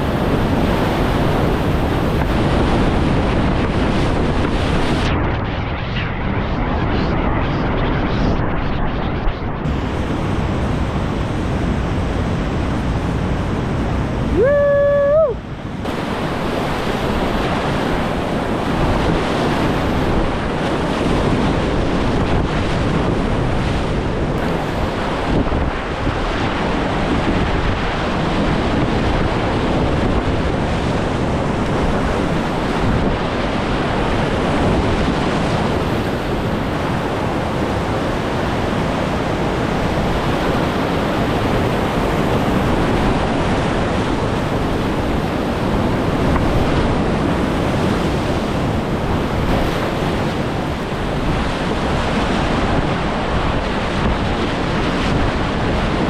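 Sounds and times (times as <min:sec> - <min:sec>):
wind buffeting microphone: 0:00.0 - 0:56.0
rapids rushing: 0:09.6 - 0:56.0.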